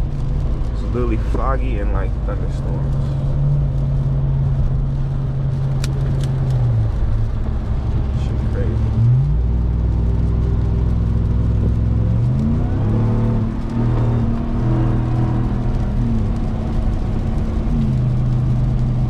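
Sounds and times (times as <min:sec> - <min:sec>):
driving noise: 0:00.0 - 0:19.0
truck engine revving: 0:00.9 - 0:19.0.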